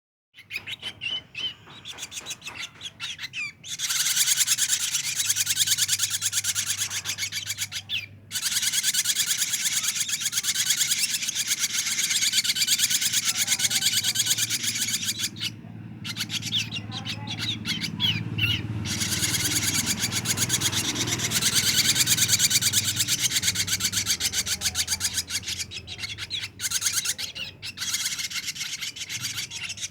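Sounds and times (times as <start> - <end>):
bird chick calling: 0.4 - 29.9.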